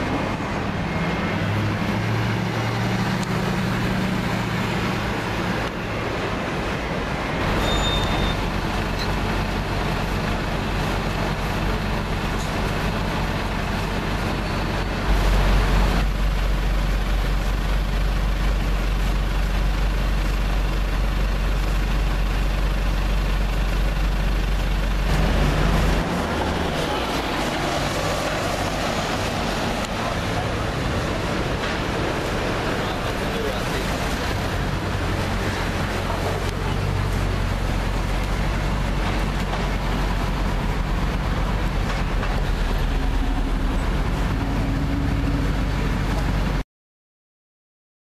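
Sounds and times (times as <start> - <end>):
street traffic: 0.0 - 46.6.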